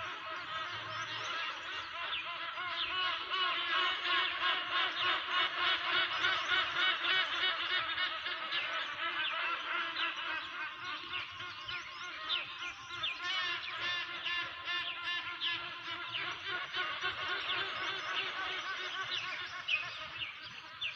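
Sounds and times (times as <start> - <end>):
birds chirping and chattering: 0.0 - 20.9.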